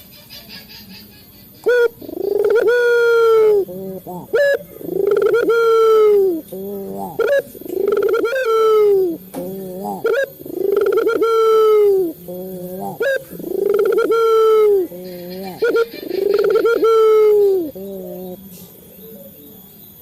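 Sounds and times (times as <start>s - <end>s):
dove cooing: 1.5s - 20.0s.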